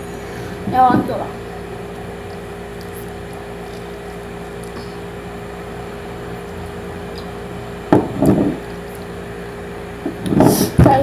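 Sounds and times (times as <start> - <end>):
steady room hum: 0.0 - 11.0.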